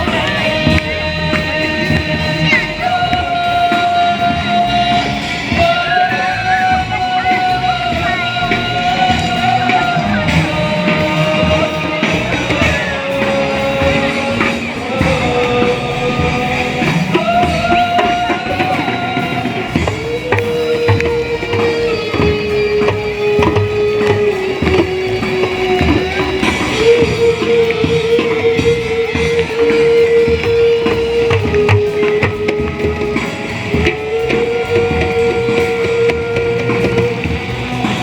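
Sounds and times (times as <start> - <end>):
dense busy accompaniment: 0.0 - 38.0
gliding long-note melody: 0.0 - 38.0.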